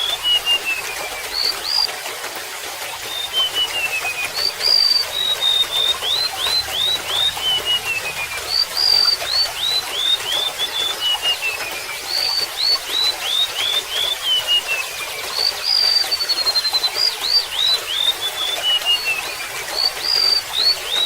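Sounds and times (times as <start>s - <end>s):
bird singing: 0.0s - 1.9s, 2.9s - 21.0s
water trickling: 0.0s - 21.0s.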